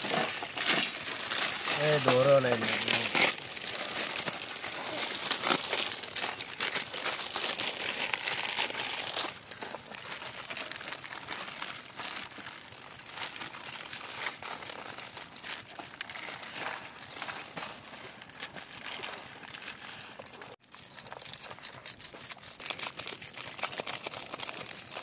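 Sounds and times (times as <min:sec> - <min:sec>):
dry noodles crunching: 0:00.0 - 0:25.0
plastic wrappers crinkling: 0:00.0 - 0:25.0.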